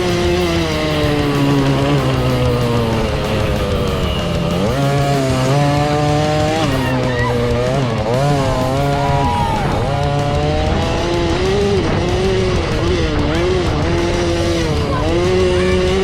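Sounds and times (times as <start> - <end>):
dirt bike engine revving: 0.0 - 16.0
rock music: 0.0 - 16.0.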